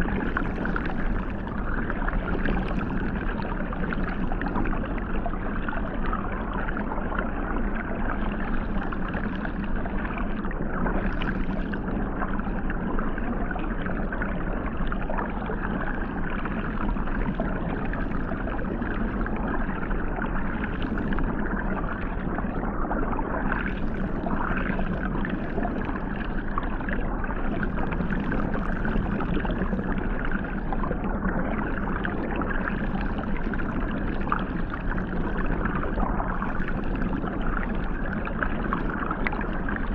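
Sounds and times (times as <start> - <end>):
muffled underwater water jets: 0.0 - 39.9.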